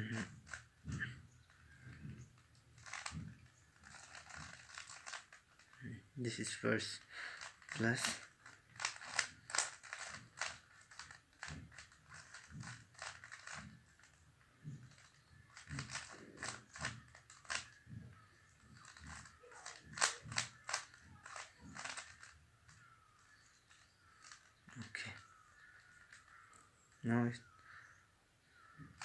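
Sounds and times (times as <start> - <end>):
puzzle cube clicking: 0.1 - 5.8, 7.0 - 27.0.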